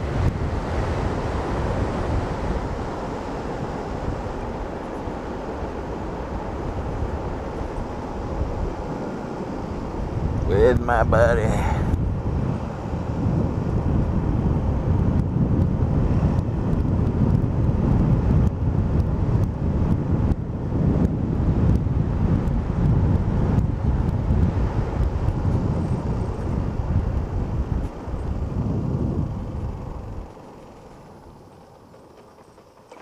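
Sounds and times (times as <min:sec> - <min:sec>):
scooter road noise: 0:00.0 - 0:33.0
wind rush on microphone: 0:00.0 - 0:33.0.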